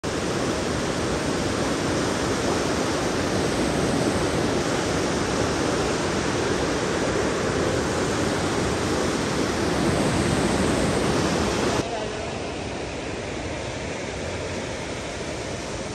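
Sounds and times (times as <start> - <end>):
stream rushing over boulders: 0.0 - 15.9.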